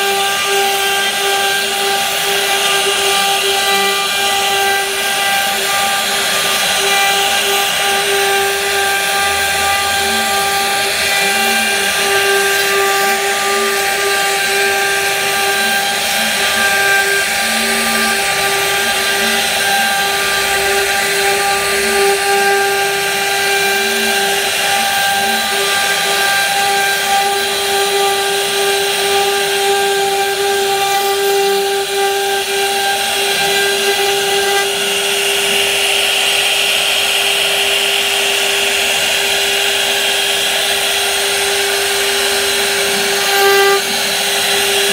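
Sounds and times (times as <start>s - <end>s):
router spindle whine: 0.0s - 44.9s.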